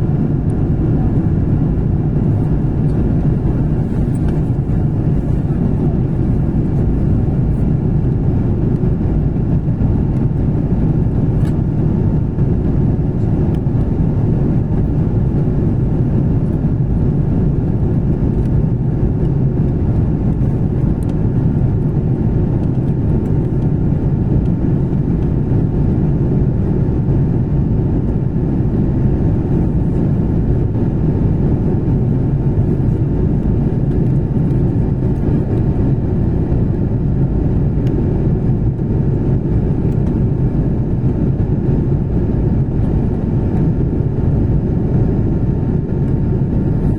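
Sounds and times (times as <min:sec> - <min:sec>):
faint steady whine: 0:00.0 - 0:46.9
jet engine rumble: 0:00.0 - 0:46.9.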